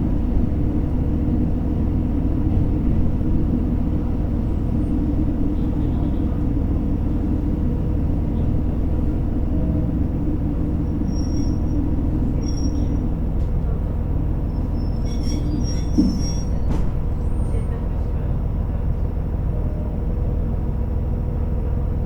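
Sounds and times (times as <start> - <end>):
railcar engine rumble: 0.0 - 22.0.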